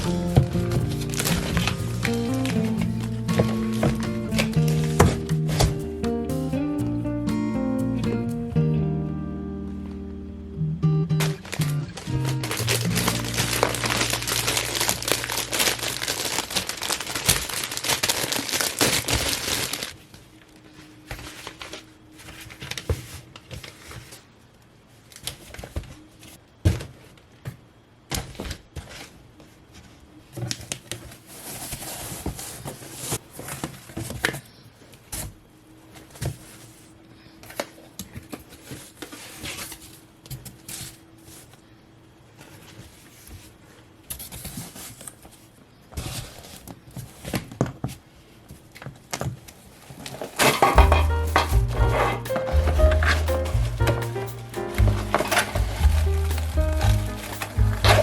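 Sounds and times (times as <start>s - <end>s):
packaging crinkling and rustling: 0.0s - 5.8s, 11.3s - 27.3s, 28.1s - 58.0s.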